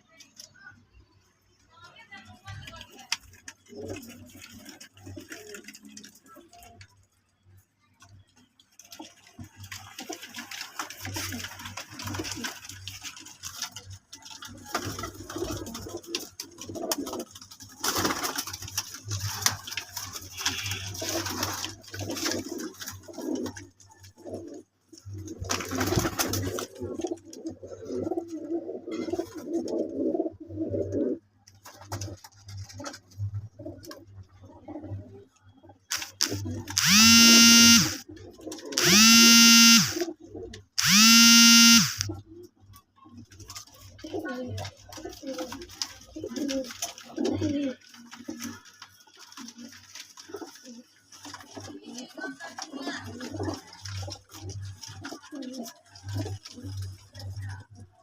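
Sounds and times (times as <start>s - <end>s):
pigeons cooing: 3.3s - 6.8s, 8.8s - 40.7s, 41.4s - 58.0s.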